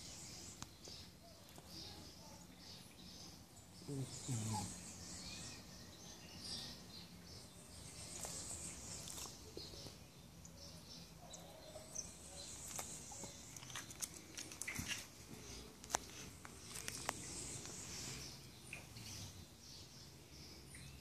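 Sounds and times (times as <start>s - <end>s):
faint high bird chirps: 0.0s - 21.0s.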